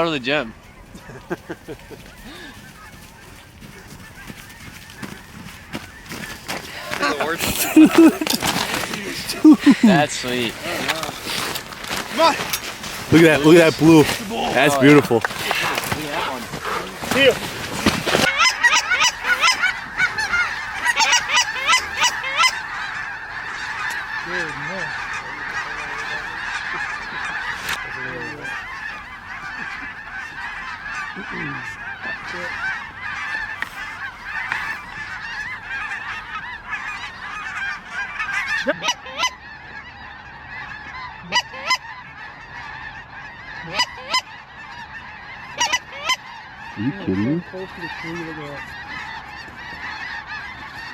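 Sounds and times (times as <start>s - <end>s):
geese honking: 0.0s - 50.9s.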